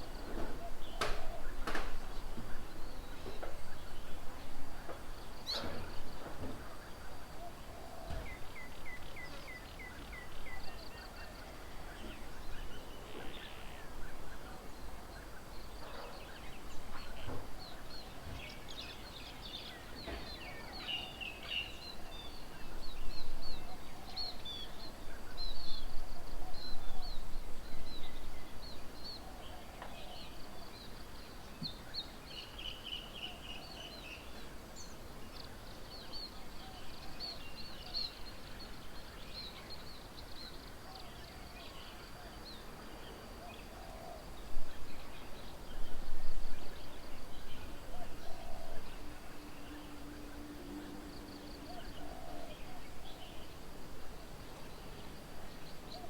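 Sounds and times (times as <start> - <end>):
outdoor background hiss: 0.0 - 56.0
wild birds chirping: 0.0 - 56.0.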